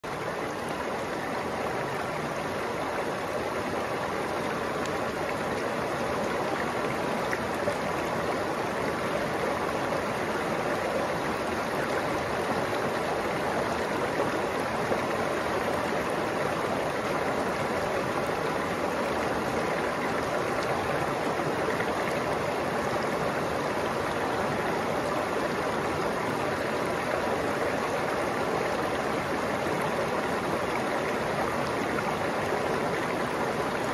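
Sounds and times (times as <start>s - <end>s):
stream running over rocks: 0.0s - 33.9s.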